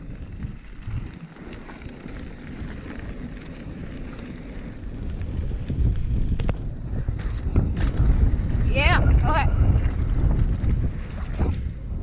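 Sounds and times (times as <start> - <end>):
tyres rumbling on gravel: 0.0 - 11.2
wind rushing over microphone: 0.0 - 12.0.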